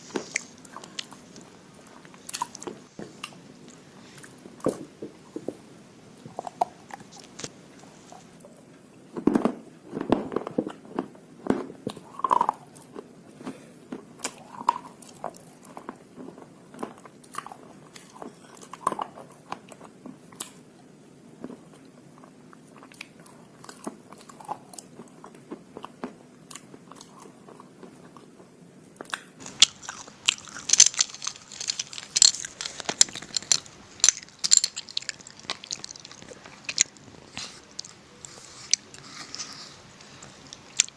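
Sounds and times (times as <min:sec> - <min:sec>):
crunching and chewing slate pencils: 0:00.0 - 0:08.4, 0:09.2 - 0:20.6, 0:21.4 - 0:28.4, 0:29.0 - 0:40.9.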